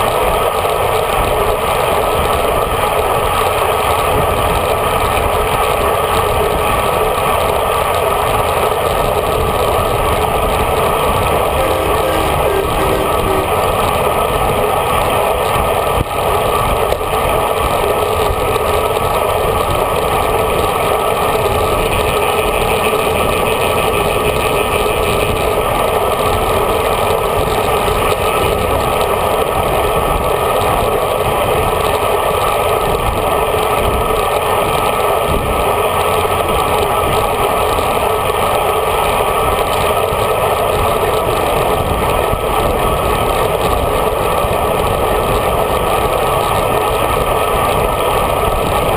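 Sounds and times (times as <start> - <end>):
bicycle road noise: 0.0 - 48.9.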